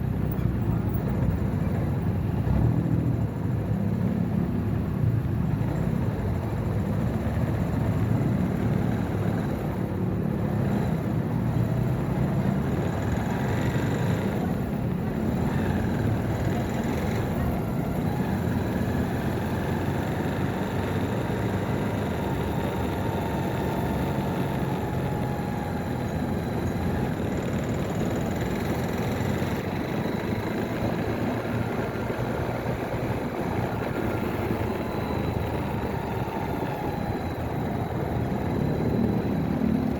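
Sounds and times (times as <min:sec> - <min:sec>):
motorcycle engine running: 0:00.0 - 0:39.9
road and traffic noise: 0:00.0 - 0:39.9.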